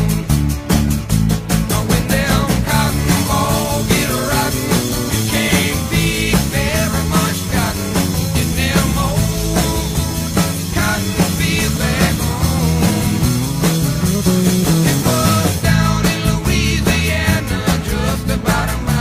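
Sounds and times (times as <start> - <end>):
rock music with drum beat: 0.0 - 19.0.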